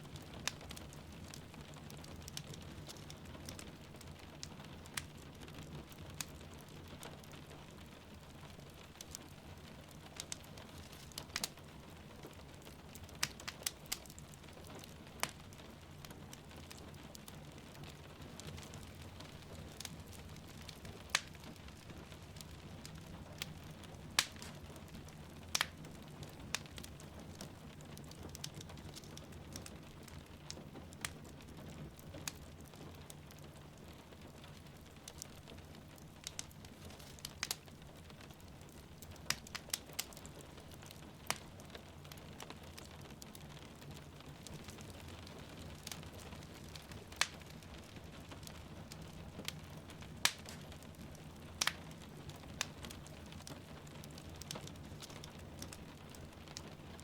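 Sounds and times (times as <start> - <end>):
rain pattering: 0.0 - 57.0
wood fire crackling: 0.0 - 57.0.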